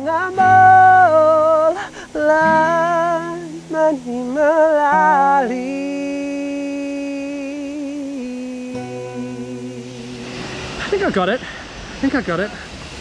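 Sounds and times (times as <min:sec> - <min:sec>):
person singing with vibrato: 0:00.0 - 0:10.9.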